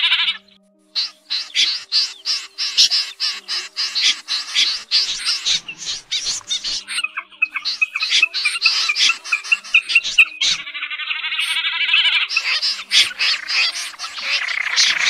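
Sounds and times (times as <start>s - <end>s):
snipe calling: 0.0s - 15.0s.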